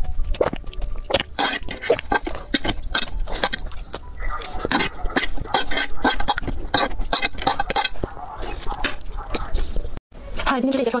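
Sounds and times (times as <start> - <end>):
chewing and slurping noodles: 0.2 - 10.0.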